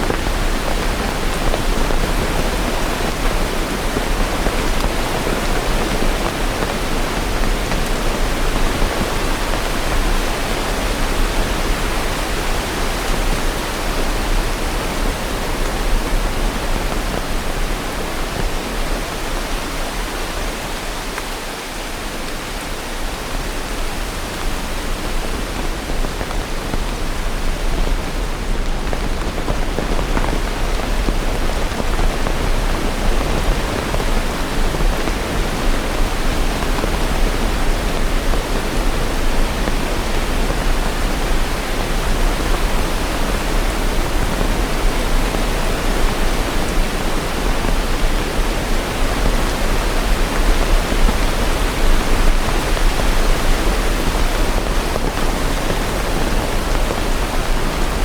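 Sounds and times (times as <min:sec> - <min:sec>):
steady heavy rain: 0:00.0 - 0:58.0.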